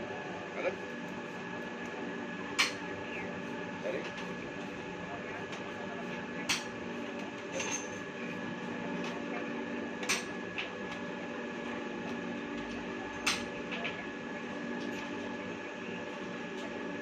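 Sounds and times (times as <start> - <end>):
pipe threading machine motor hum: 0.0 - 17.0.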